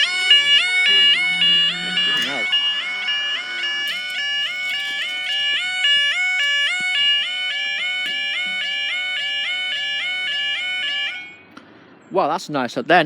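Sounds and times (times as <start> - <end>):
level crossing alarm warbling: 0.0 - 11.4.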